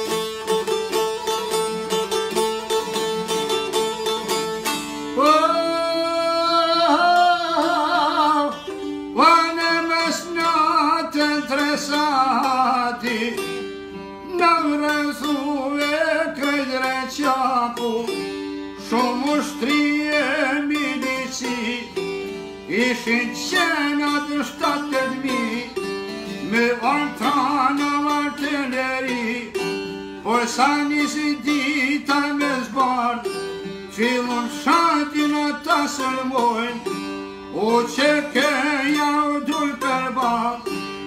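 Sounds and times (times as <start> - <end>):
plucked lutes playing folk music: 0.0 - 41.0
person singing ornamented notes: 5.0 - 41.0.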